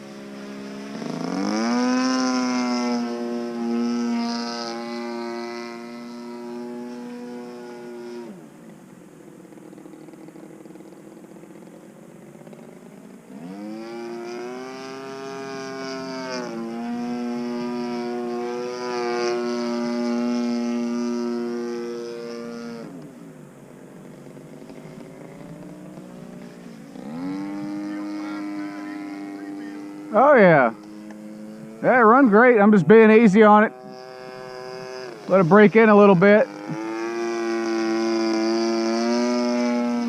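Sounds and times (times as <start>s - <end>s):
model plane engine: 0.0s - 40.0s.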